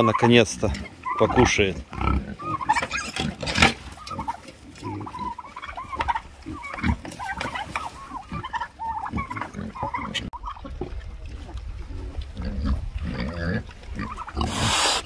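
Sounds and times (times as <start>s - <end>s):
pigs squealing and grunting: 0.0s - 10.7s, 11.3s - 15.0s.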